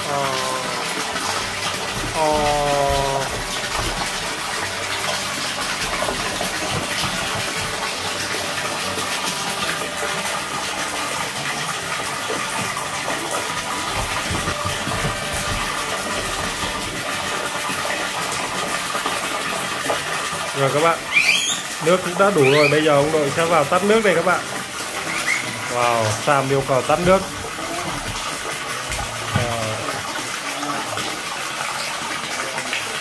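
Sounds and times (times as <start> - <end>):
water pouring into pool: 0.0 - 33.0.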